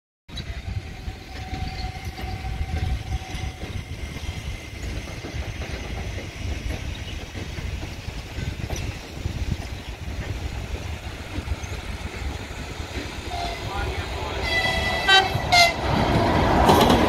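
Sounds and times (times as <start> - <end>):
electric train rumbling: 0.3 - 17.0.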